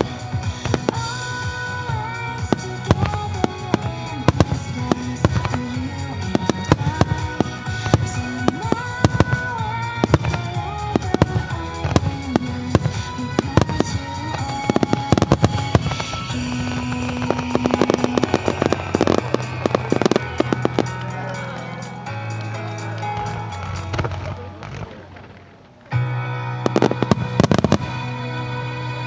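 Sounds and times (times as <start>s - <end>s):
pop music: 0.0s - 24.6s, 26.0s - 29.0s
crackling firework bursts: 0.0s - 28.4s
fireworks bursting: 0.0s - 28.6s.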